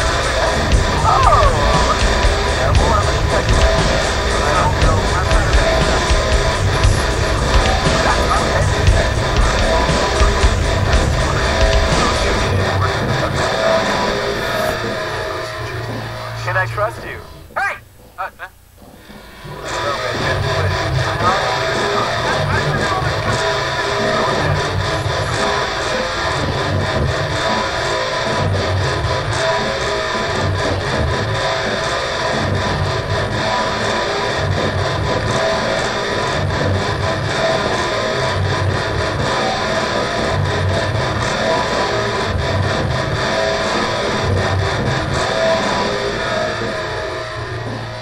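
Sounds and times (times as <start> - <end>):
distorted metal music: 0.0 - 48.0.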